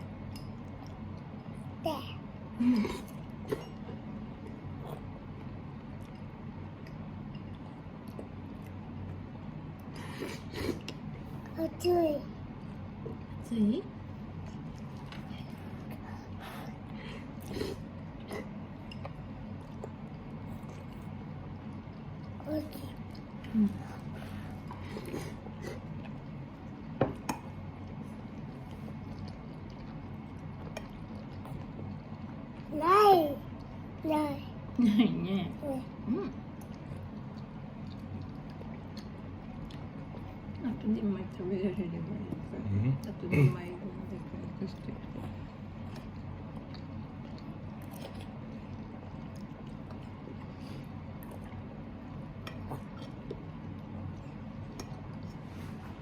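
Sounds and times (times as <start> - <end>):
low room hum: 0.0 - 56.0.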